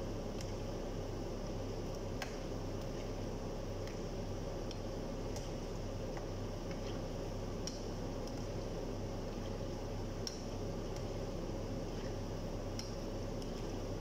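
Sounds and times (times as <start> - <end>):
dough frying in oil: 0.0 - 14.0.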